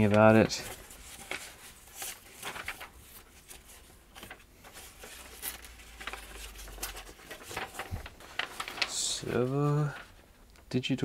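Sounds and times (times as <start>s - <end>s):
paper pages rustling: 0.0s - 10.3s.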